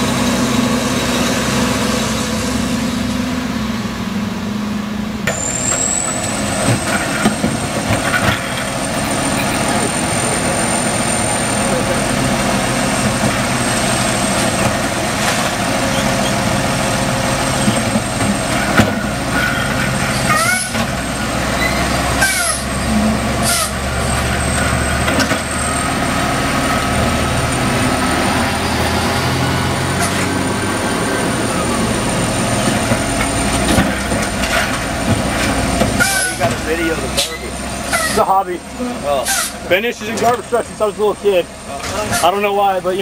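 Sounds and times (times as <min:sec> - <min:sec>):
garbage truck diesel engine: 0:00.0 - 0:43.0
hydraulic arm dumping carts: 0:05.2 - 0:43.0.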